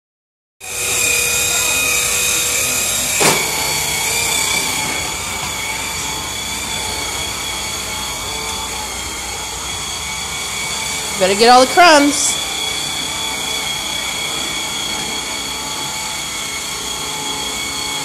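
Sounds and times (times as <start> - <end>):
floor sweeper whining: 0.6 - 18.0.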